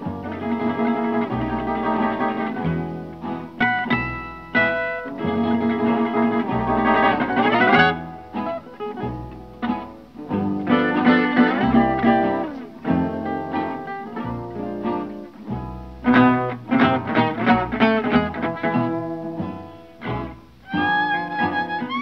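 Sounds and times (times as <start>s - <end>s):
bowed string notes: 0.0s - 22.0s
plucked strings music: 0.0s - 22.0s.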